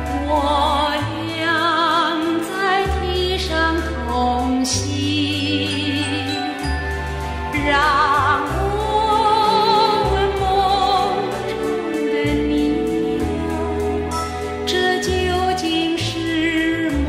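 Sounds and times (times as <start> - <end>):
woman singing a pop ballad: 0.0 - 6.8, 7.5 - 17.0
orchestral accompaniment: 0.0 - 17.0.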